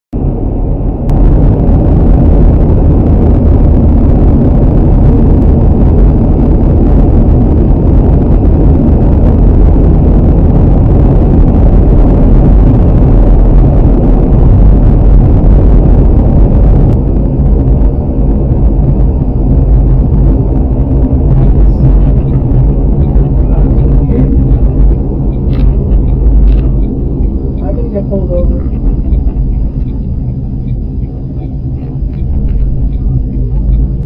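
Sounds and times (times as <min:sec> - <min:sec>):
car tyres and engine rumble: 0:00.1 - 0:34.0.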